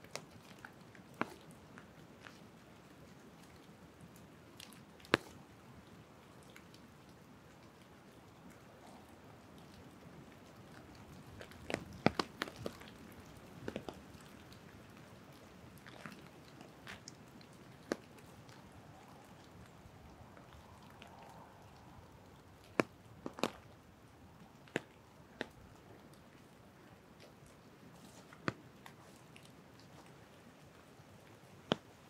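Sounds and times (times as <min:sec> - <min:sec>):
drips falling from trees: 0:00.0 - 0:31.9
rain pattering: 0:00.0 - 0:32.0.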